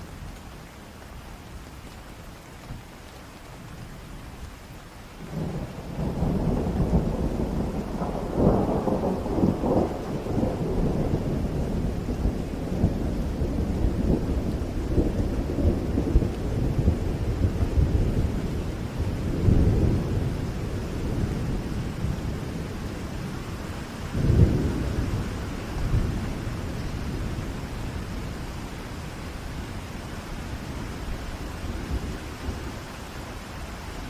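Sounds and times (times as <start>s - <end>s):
steady rain: 0.0s - 34.0s
rolling thunder: 5.2s - 32.8s.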